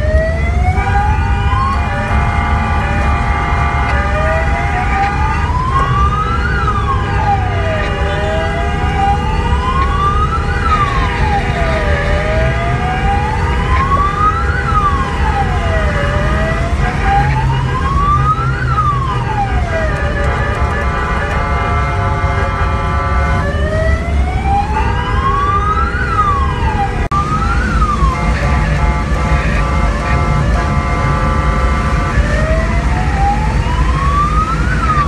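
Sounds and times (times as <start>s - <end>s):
engine and road rumble: 0.0s - 35.0s
fire engine wail siren: 0.0s - 35.0s.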